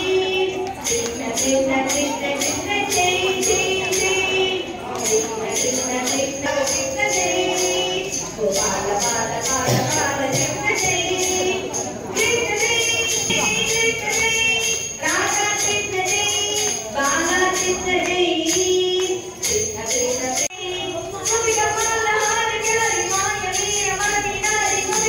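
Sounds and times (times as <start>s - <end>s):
jingling bells: 0.0s - 25.0s
people singing: 0.0s - 25.0s.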